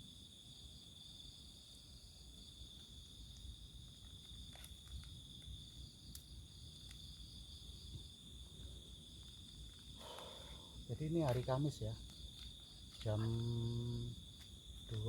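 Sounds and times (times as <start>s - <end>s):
crickets and insects chirping: 0.0s - 15.0s.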